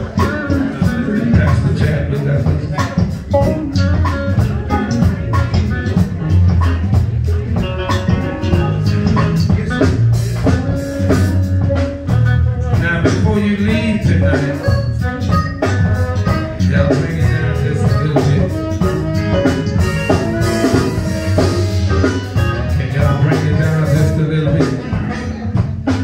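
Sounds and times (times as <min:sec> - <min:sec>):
bass guitar: 0:00.0 - 0:26.0
electric guitar: 0:00.0 - 0:26.0
steady drum beat: 0:00.0 - 0:26.0.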